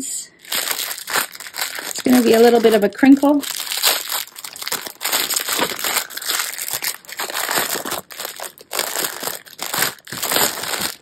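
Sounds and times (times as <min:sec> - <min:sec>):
plastic bag crinkling: 0:00.4 - 0:11.0.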